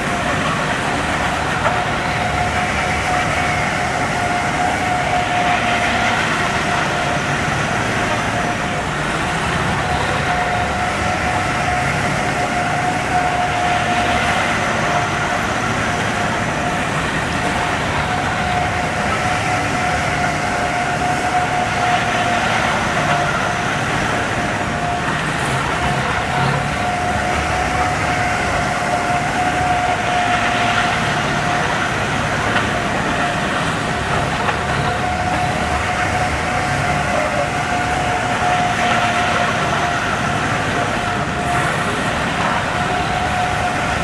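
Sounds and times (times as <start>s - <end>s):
vehicle noise with constant whine: 0.0s - 44.0s.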